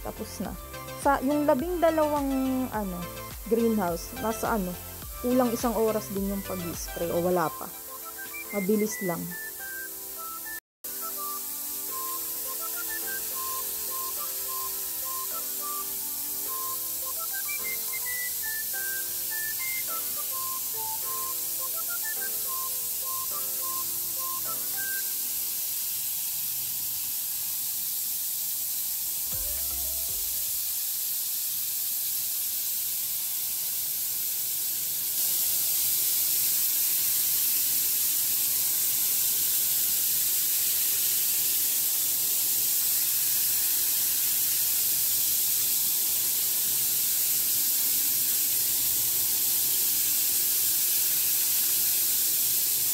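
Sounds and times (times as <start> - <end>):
spray nozzle hissing: 0.0 - 52.9.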